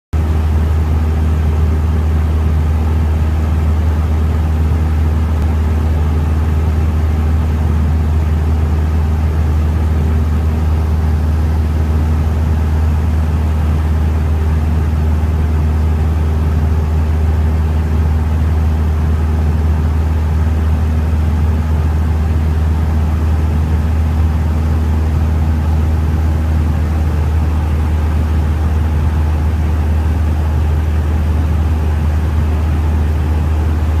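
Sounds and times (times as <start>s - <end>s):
aircraft engine and propeller droning: 0.2s - 34.0s.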